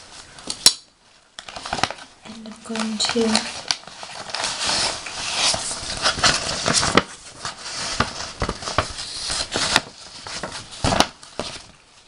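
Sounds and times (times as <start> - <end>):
paper rustling and crinkling: 1.4 - 12.0.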